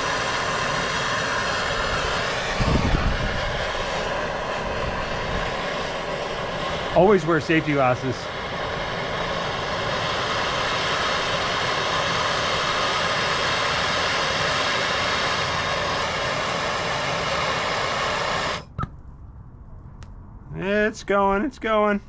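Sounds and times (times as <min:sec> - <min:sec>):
gas torch hissing: 0:00.0 - 0:18.8.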